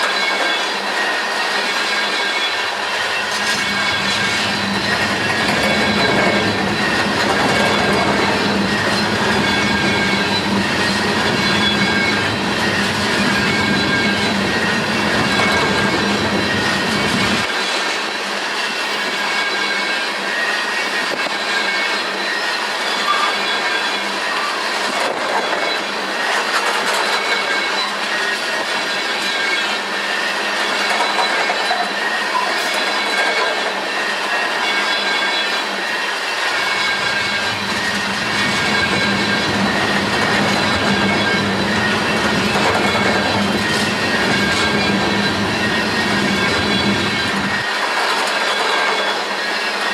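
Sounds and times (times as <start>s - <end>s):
train wheels rumbling on rail: 0.0s - 49.9s
wheel squeals: 0.0s - 49.9s.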